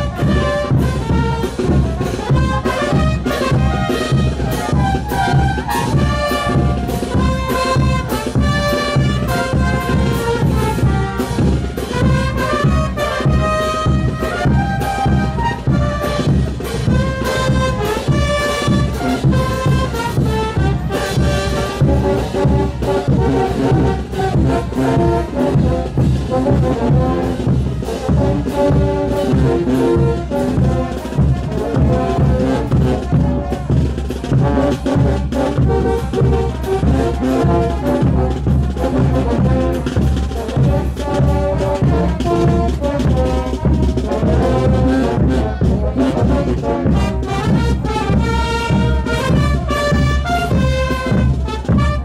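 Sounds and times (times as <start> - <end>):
brass band playing: 0.0 - 52.0
steady drum beat: 0.0 - 52.0.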